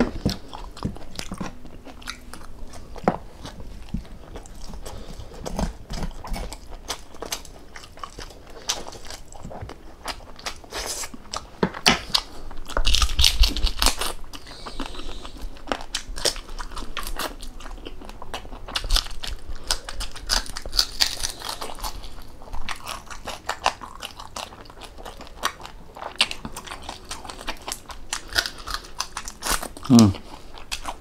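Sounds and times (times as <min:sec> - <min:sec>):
biting and chewing crunchy food: 0:00.0 - 0:31.0.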